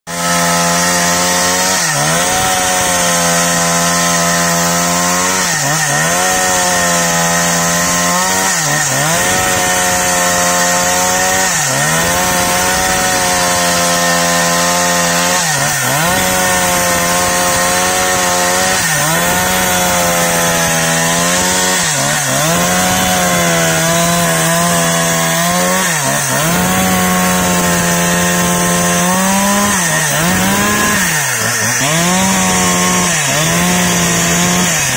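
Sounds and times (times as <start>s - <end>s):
chainsaw cutting log: 0.1s - 34.9s.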